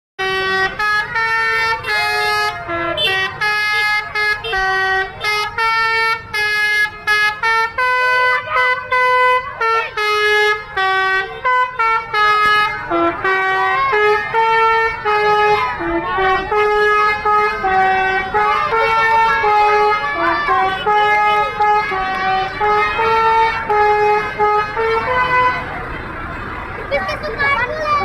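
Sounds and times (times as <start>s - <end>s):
multi-tone bus horn melody: 0.2s - 28.0s.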